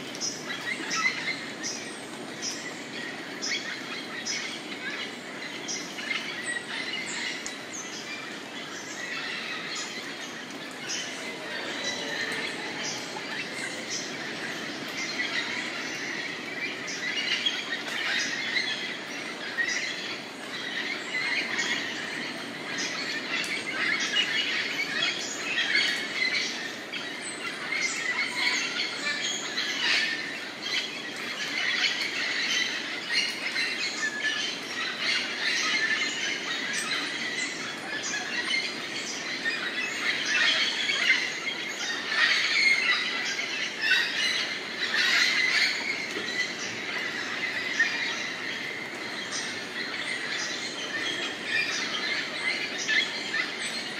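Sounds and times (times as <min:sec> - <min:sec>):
chorus of birds calling: 0:00.0 - 0:53.9.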